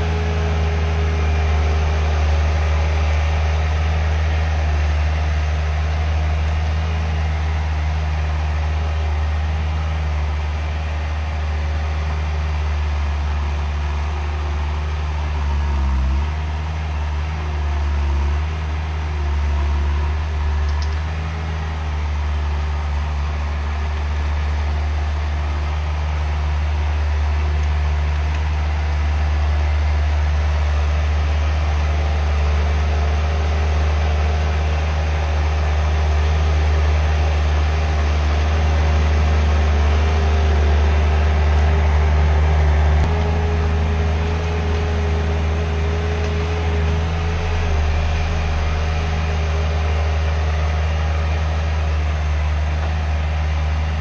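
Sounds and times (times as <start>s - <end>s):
skid steer engine rumbling: 0.0s - 54.0s.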